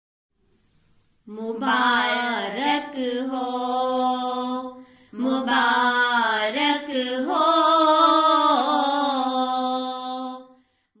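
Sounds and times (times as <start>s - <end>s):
girls singing long held notes: 1.3s - 10.6s.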